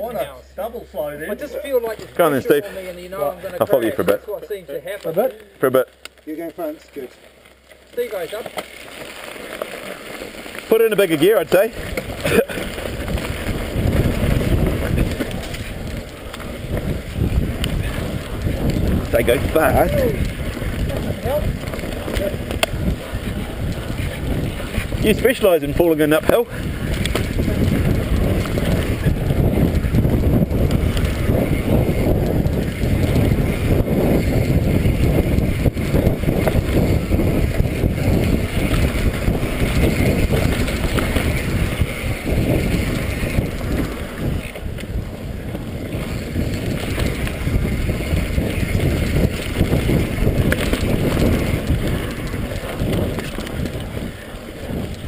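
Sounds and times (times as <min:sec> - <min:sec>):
bike tyre noise on dirt: 0:00.0 - 0:55.0
bike rattling and knocking: 0:03.1 - 0:55.0
wind rushing over microphone: 0:09.5 - 0:55.0.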